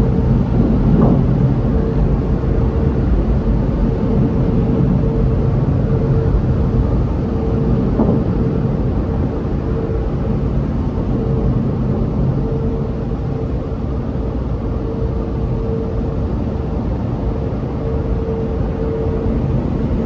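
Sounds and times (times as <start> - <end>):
road rumble: 0.0 - 14.7, 17.6 - 20.0
low exhaust drone: 0.0 - 20.0.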